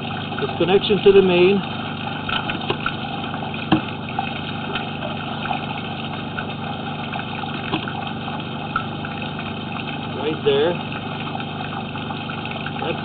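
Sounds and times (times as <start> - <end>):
water rushing through drain: 0.0 - 13.0.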